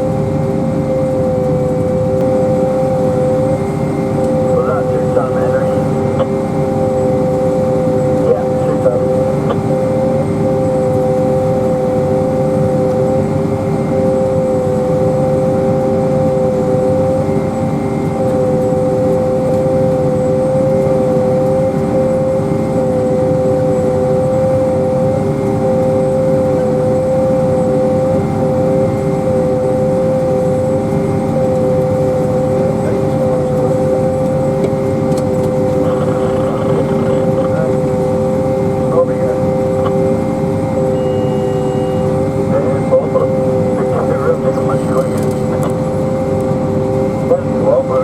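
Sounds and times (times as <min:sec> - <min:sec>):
machinery drone with steady whine: 0:00.0 - 0:48.0.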